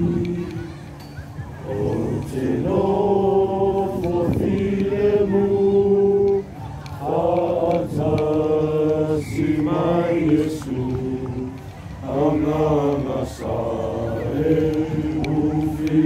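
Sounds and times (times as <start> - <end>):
young men singing together: 0.0 - 0.9, 1.6 - 16.0.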